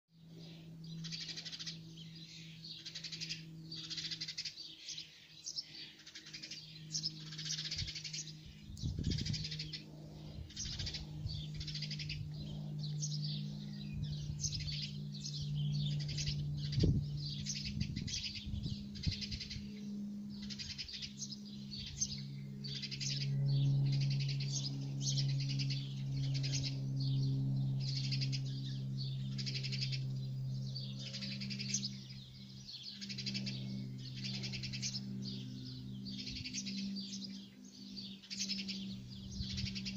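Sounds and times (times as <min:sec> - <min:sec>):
low steady hum: 0:00.2 - 0:39.9
small bird chirping: 0:00.4 - 0:39.9.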